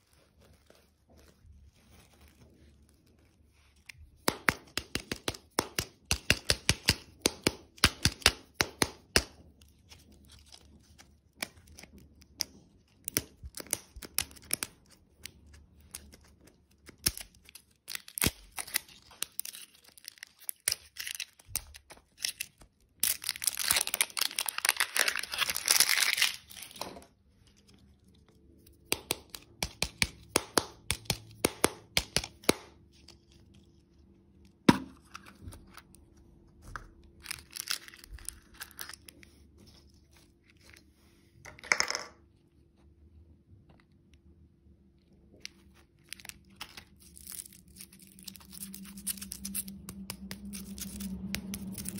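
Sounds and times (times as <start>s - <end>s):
wrapping tearing and crinkling: 0.0s - 31.4s, 32.2s - 40.9s, 45.3s - 51.9s.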